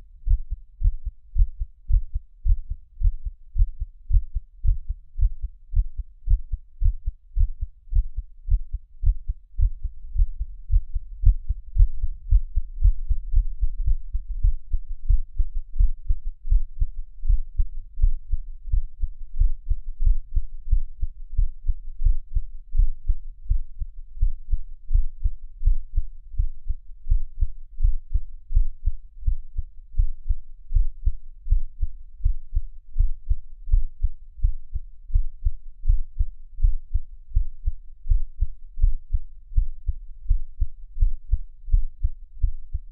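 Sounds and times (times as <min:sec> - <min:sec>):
heartbeat: 0:00.0 - 0:42.9.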